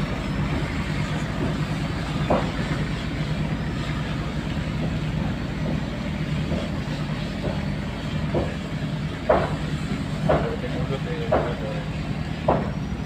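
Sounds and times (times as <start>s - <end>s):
boat diesel engine droning: 0.0s - 13.0s.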